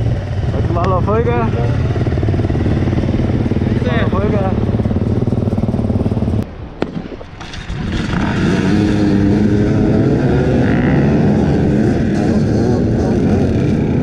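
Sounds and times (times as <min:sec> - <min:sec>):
dirt bike engines revving: 0:00.0 - 0:06.4, 0:07.5 - 0:14.0.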